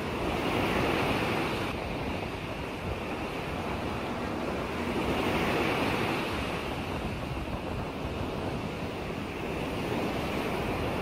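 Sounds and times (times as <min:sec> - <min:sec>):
lake waves splashing: 0:00.0 - 0:11.0.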